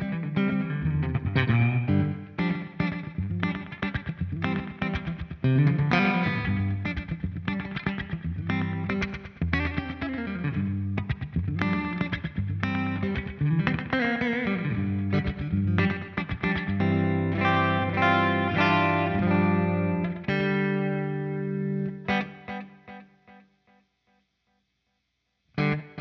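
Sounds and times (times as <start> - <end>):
electric guitar with delay echo: 0.0 - 23.8.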